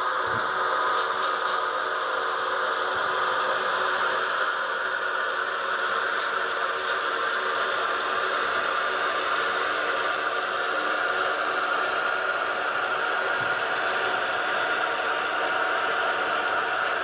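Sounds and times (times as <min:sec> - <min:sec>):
model train wheels whirring and rattling: 0:00.0 - 0:17.0.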